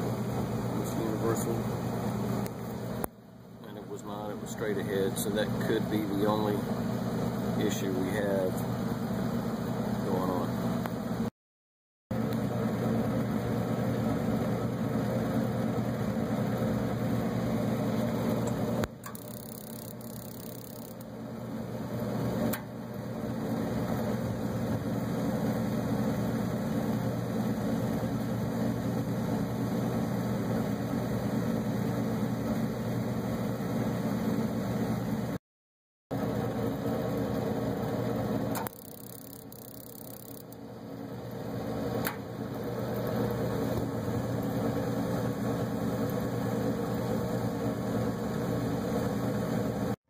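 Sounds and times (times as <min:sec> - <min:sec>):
gas furnace humming: 0:00.0 - 0:11.3, 0:12.1 - 0:35.4, 0:36.1 - 0:50.0.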